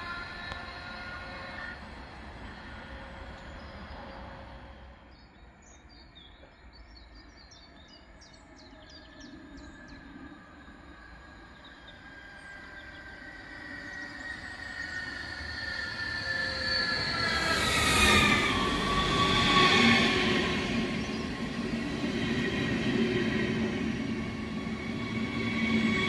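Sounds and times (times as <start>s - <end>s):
electric train approaching with whine: 0.0s - 26.0s.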